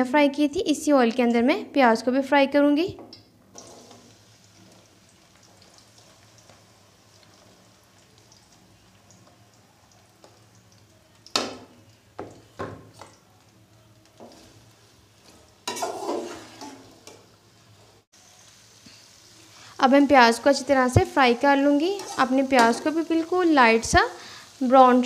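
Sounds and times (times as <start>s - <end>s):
onions sizzling in hot oil: 3.5s - 25.0s.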